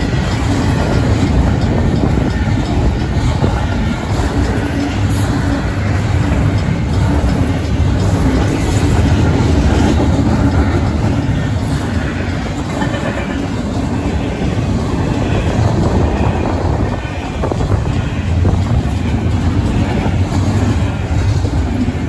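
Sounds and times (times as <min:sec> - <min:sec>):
steel wheels on rails: 0:00.0 - 0:22.0.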